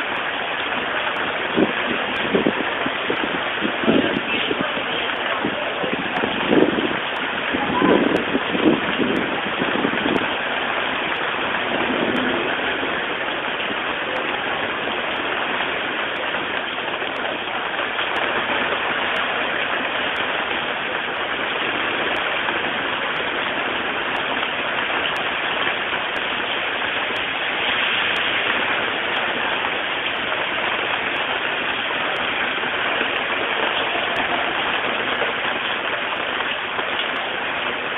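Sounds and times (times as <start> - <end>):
heavy rain on flooded street: 0.0 - 37.9.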